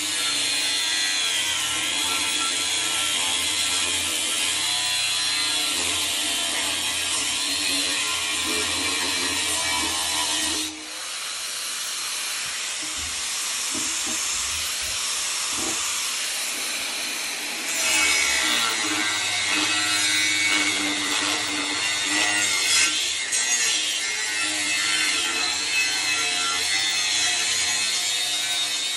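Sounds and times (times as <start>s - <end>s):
angle grinder cutting steel: 0.0s - 28.9s.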